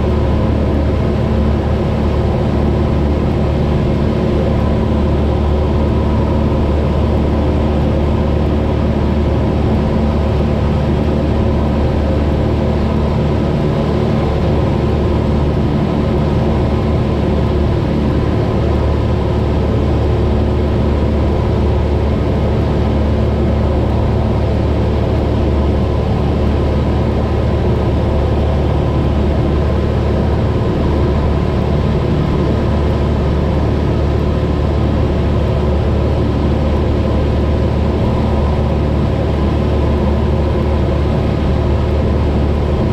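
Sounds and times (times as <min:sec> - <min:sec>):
propeller plane engine droning: 0:00.0 - 0:42.9.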